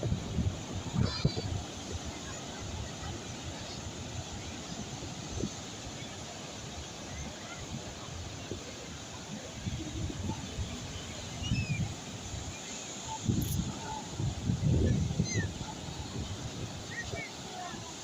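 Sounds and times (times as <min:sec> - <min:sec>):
calm sea waves: 0:00.0 - 0:18.0
wind rumbling on microphone: 0:00.0 - 0:18.0.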